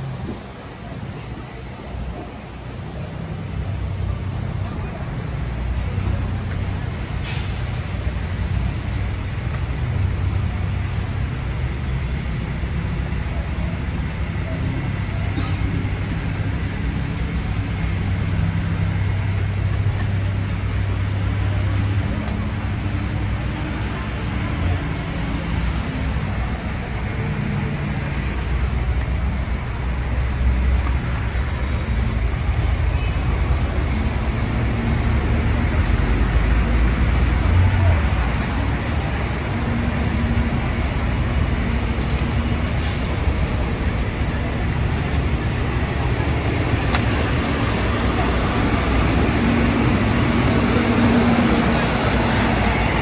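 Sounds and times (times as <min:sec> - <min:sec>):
road noise: 0:00.0 - 0:53.0
traffic engine rumble: 0:00.0 - 0:53.0.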